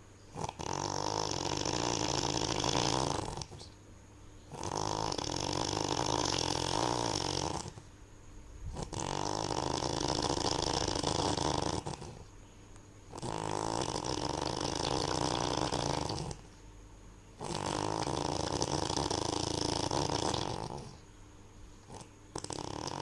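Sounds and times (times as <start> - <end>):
loud rasping snoring: 0.3 - 3.7, 4.5 - 7.9, 8.7 - 12.3, 13.1 - 16.5, 17.4 - 21.0, 21.8 - 23.0.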